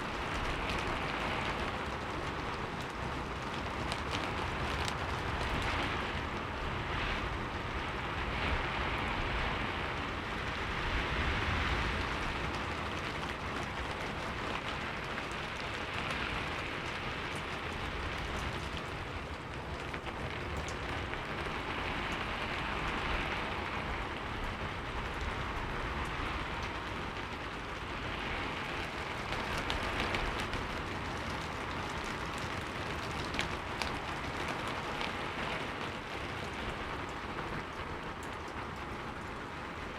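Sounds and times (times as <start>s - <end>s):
raindrop ticks: 0.0s - 8.8s, 11.7s - 39.9s
heavy rain hissing: 0.0s - 39.9s.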